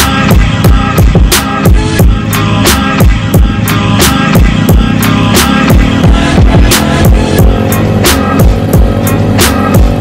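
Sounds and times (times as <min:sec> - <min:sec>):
held pitched chords: 0:00.0 - 0:10.0.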